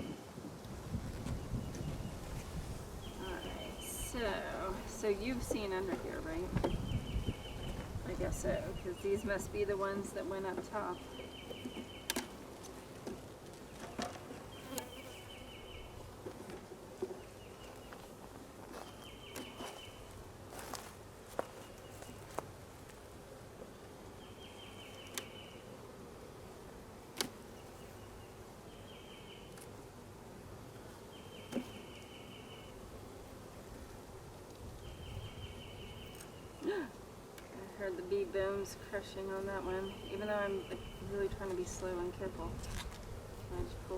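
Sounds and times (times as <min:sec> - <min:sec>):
honeybees buzzing: 0:00.0 - 0:43.9.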